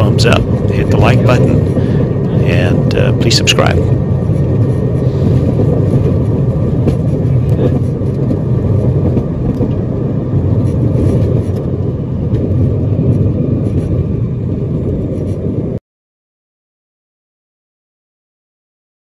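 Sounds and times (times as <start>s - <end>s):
jet rumbling down runway: 0.0s - 15.8s.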